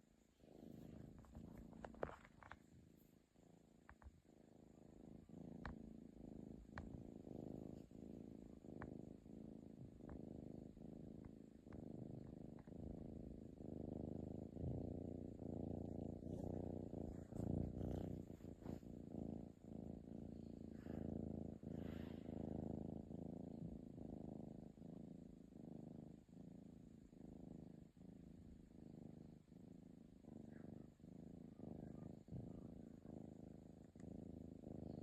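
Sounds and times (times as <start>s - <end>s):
cat snoring: 3.4s - 35.0s.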